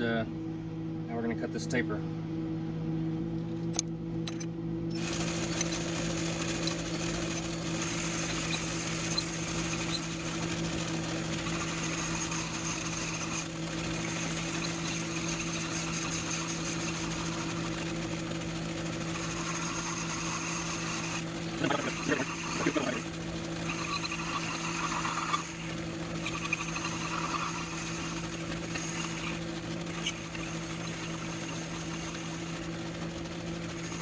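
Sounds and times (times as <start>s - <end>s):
boring bar cutting steel: 3.7s - 34.0s
lathe machine hum: 4.3s - 34.0s.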